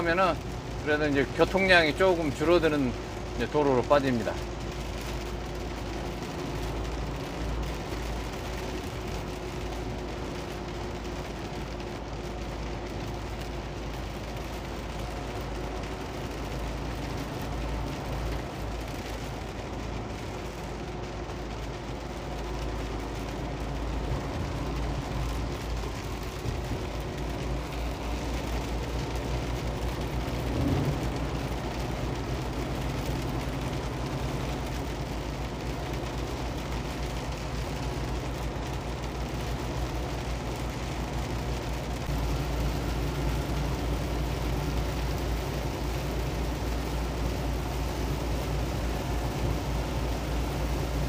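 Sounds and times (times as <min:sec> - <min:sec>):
rain: 0:00.0 - 0:51.0
truck engine drone: 0:00.0 - 0:51.0
tyres hissing on wet road: 0:00.0 - 0:51.0.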